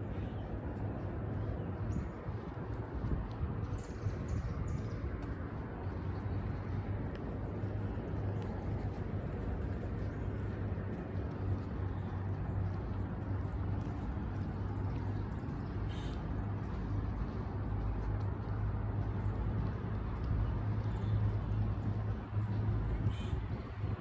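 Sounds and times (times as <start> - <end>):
outdoor ambience hum: 0.0 - 24.0.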